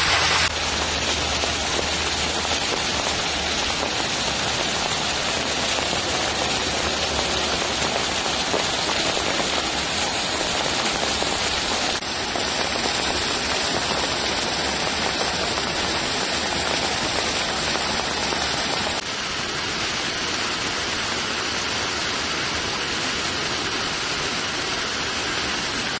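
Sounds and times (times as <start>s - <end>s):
water rushing over rocks: 0.0s - 26.0s.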